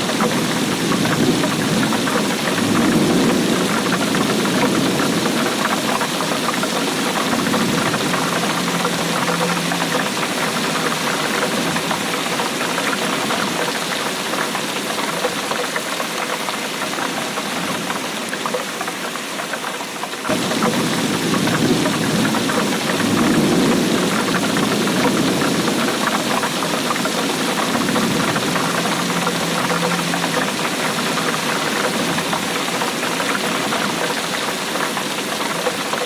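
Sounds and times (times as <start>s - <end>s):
steady rainfall: 0.0s - 36.0s.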